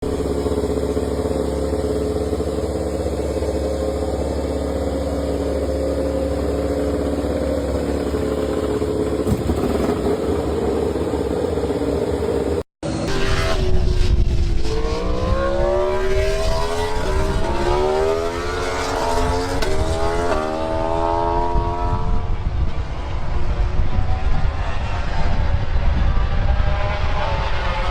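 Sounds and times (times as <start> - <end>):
racing motorcycle engine: 0.0 - 27.9.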